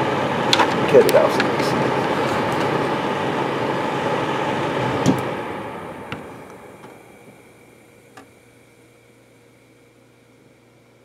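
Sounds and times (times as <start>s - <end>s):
fan whirring and winding down: 0.0s - 11.0s.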